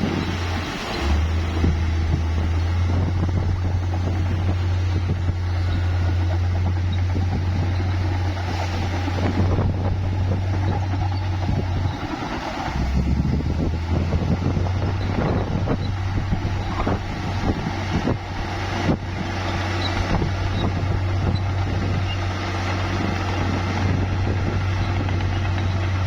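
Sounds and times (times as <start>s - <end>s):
bulldozer diesel engine droning: 0.0s - 26.0s.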